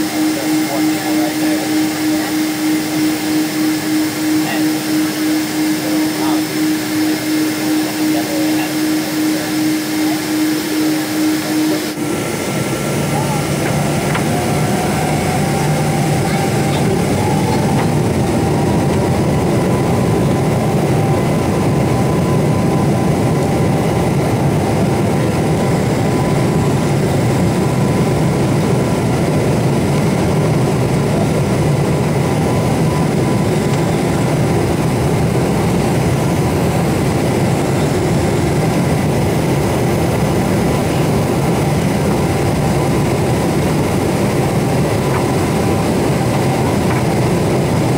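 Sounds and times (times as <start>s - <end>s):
faint engine whine: 0.0s - 47.9s
jet engine and airflow drone: 0.0s - 47.9s.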